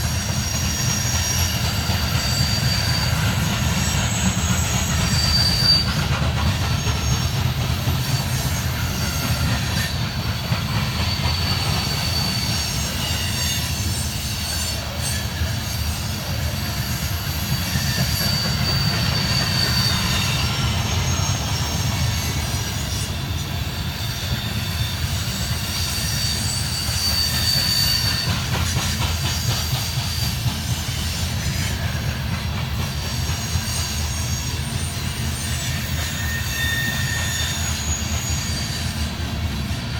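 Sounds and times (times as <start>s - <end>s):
train cars rumbling past: 0.0s - 39.9s
wheels squealing on rails: 0.0s - 39.9s.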